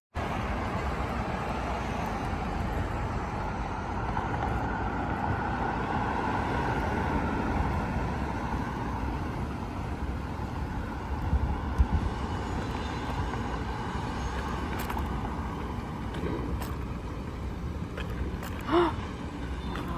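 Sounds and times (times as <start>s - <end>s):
cars driving past: 0.2s - 19.9s.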